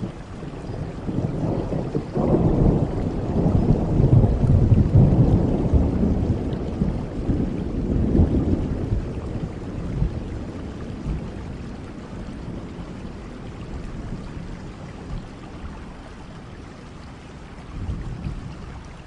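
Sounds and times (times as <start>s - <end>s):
thunder rumbling: 0.0s - 18.9s
steady rain: 0.0s - 19.0s.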